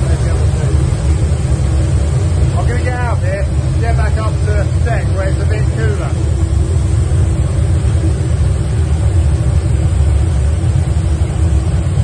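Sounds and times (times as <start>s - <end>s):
boiler burners rumbling: 0.0s - 12.0s
faint steady hum: 0.0s - 12.0s.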